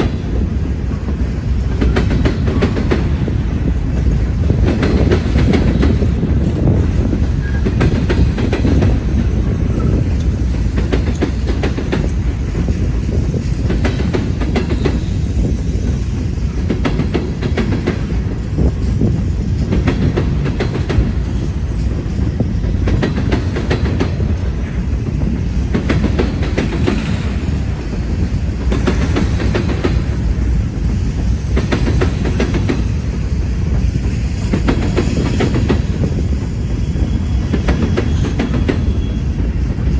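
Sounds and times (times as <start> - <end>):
wheels clicking over rail joints: 0.0 - 36.1
freight train rumble: 0.0 - 39.9.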